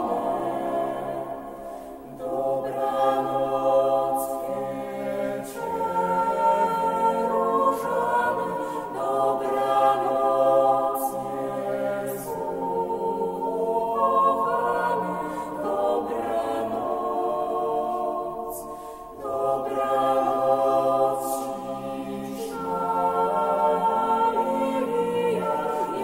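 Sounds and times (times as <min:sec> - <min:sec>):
vocal ensemble singing chords: 0:00.0 - 0:26.0.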